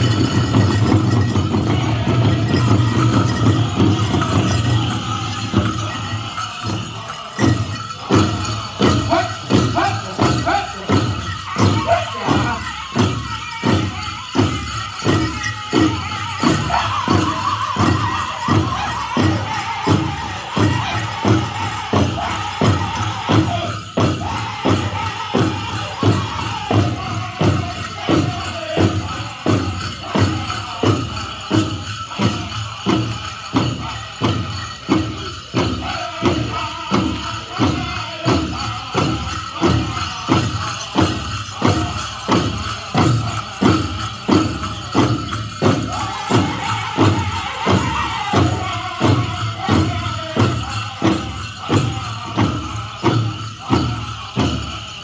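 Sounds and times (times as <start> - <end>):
group singing: 0.0 - 55.0
jingling bells: 0.0 - 55.0.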